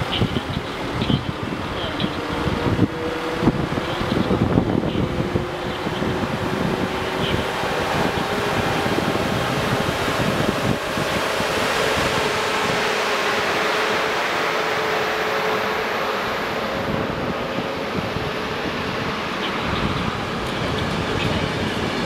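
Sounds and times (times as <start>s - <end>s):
electric locomotive moving off: 0.0s - 22.0s
passenger coaches rolling past: 0.0s - 22.0s.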